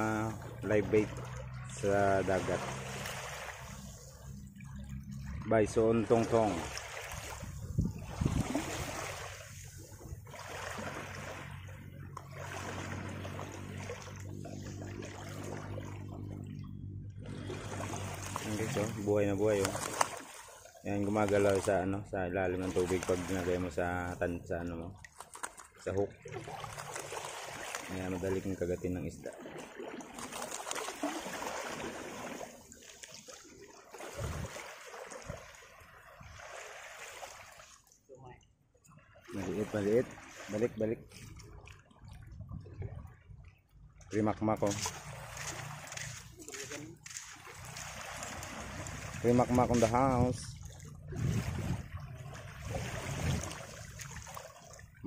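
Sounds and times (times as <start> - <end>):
small waves washing over pebbles: 0.0 - 5.0, 5.9 - 16.4, 17.2 - 22.0, 22.6 - 24.2, 25.1 - 37.9, 44.6 - 55.0.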